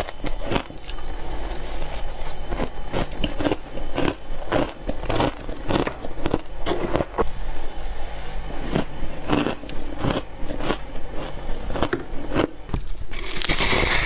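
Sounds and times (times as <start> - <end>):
crunching frost: 0.0 - 7.3, 8.6 - 14.0.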